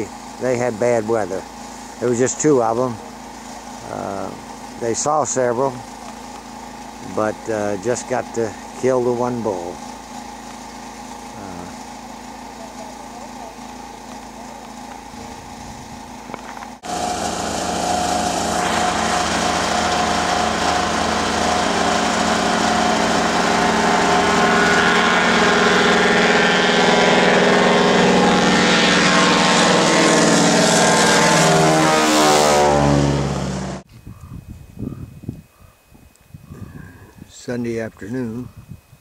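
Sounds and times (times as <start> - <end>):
floatplane engine and propeller drone: 0.0 - 38.9.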